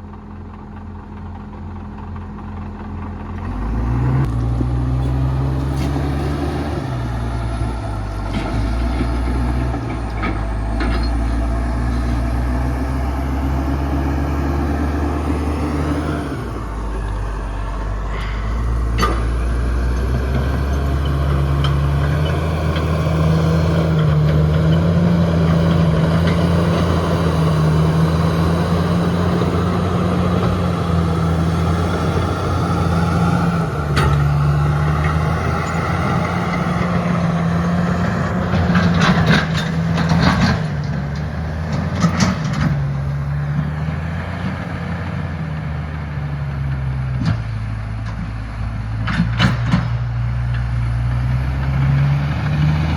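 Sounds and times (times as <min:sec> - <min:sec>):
bulldozer diesel engine under load: 0:00.0 - 0:52.9.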